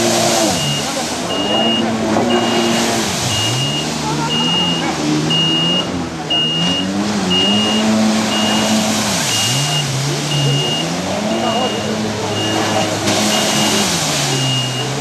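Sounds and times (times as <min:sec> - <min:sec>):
jet ski engine running: 0:00.0 - 0:15.0
high beep: 0:00.3 - 0:15.0.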